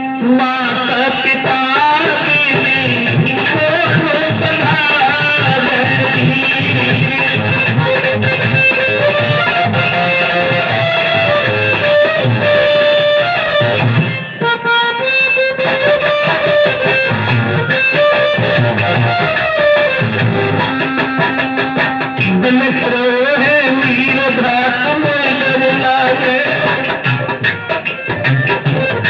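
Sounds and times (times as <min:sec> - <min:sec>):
plucked-string melody over a beat: 0:00.0 - 0:29.0.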